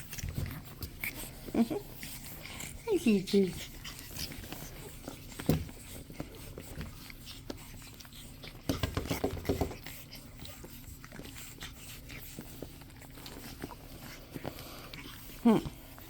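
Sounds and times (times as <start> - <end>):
puppies making small sounds: 0.0 - 16.0.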